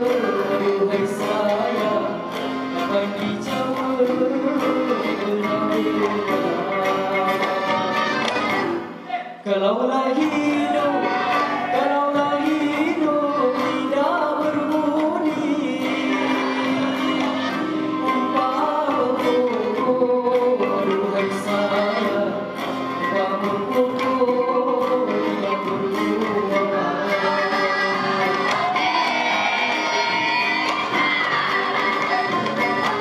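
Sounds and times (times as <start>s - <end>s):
person singing: 0.0s - 33.0s
string instruments: 0.0s - 33.0s.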